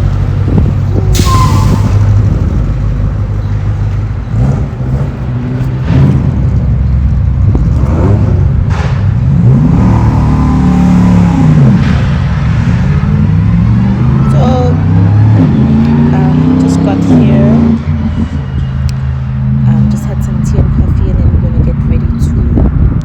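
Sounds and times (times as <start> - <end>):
vehicle engines revving: 0.0 - 23.0.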